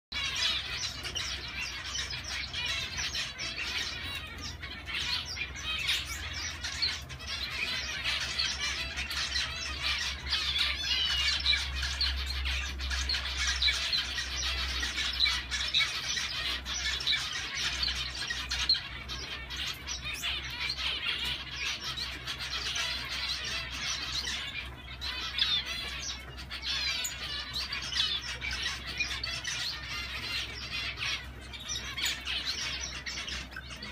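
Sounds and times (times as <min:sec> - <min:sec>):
finches chirping: 0:00.1 - 0:33.9.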